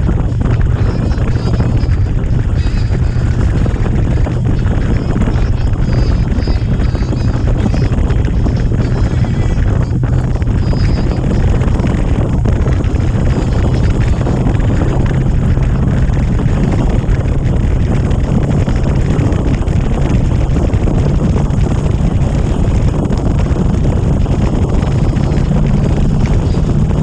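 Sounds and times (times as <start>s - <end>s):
motorcycle engine cruising: 0.0s - 27.0s
wind rushing over microphone: 0.0s - 27.0s.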